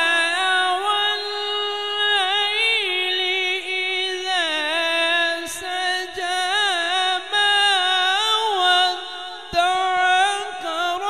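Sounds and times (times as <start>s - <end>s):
man reciting in melodic chant: 0.0s - 11.0s.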